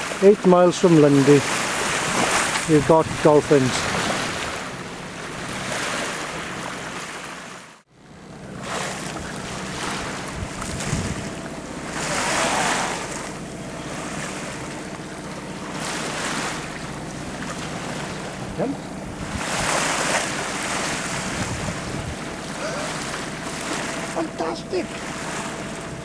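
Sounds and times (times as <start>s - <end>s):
water rushing past hull: 0.0s - 26.0s
wind buffeting microphone: 1.3s - 7.0s, 8.2s - 26.0s.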